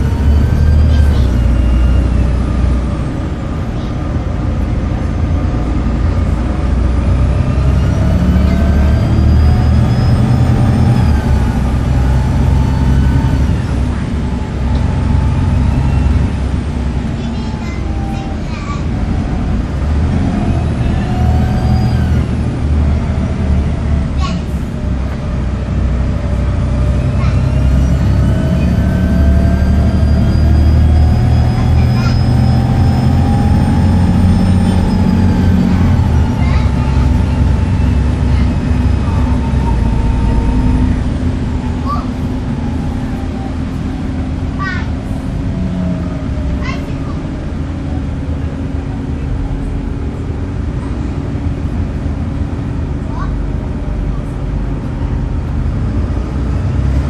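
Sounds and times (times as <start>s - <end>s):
bus diesel engine pulling: 0.0s - 57.0s.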